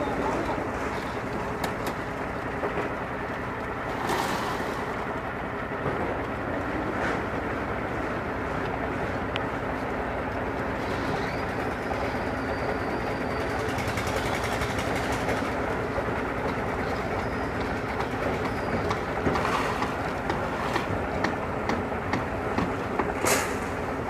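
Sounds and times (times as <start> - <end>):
heavy machinery running: 0.0 - 24.0.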